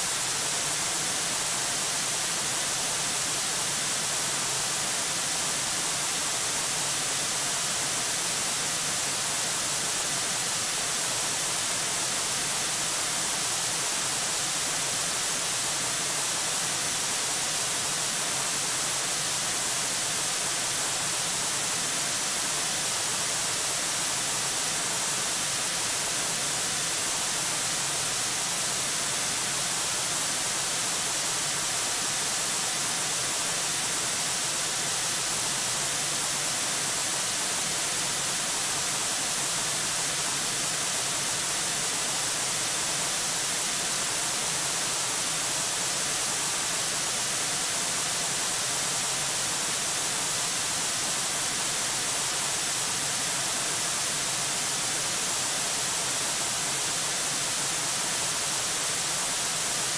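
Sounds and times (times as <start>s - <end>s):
static hiss: 0.0s - 59.9s.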